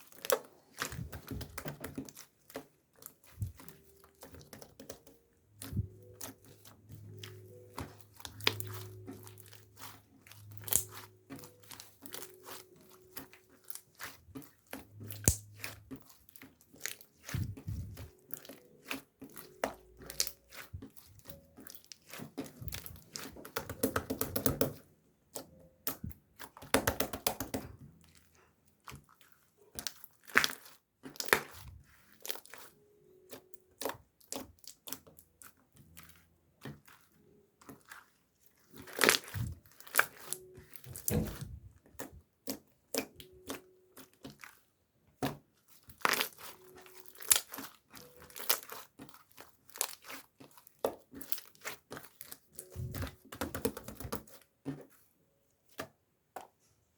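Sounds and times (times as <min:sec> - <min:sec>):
crinkling and rustling: 0:00.0 - 0:56.9.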